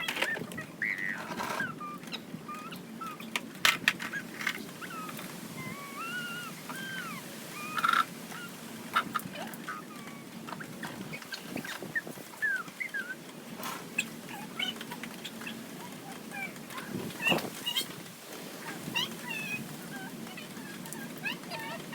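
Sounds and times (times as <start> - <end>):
birds calling: 0.0 - 21.9.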